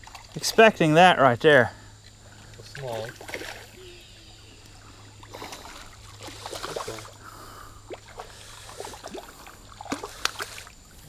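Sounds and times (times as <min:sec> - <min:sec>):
river water splashing around legs: 0:00.0 - 0:00.9, 0:02.0 - 0:11.0.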